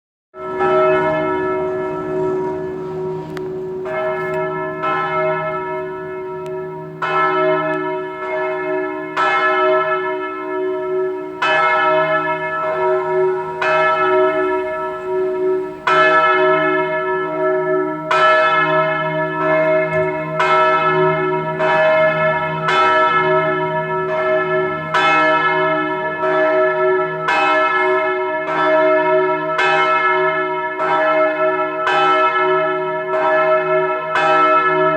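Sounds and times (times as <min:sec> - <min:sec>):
large church bell ringing: 0:00.4 - 0:34.9.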